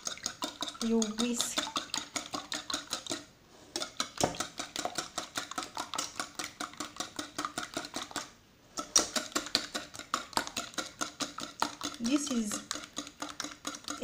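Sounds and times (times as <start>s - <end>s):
whisk clicking against bowl: 0.0s - 14.0s.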